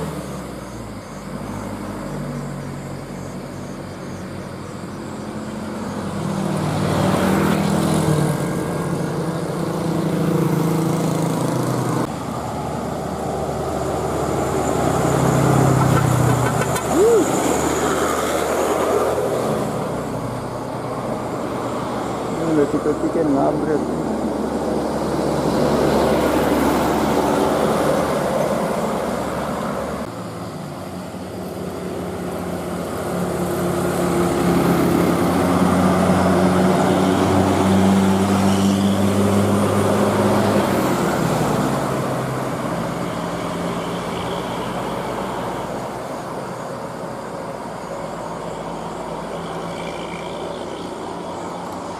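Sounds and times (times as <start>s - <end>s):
bus engine hum: 0.0s - 51.9s
heavy vehicle passing: 5.4s - 51.9s.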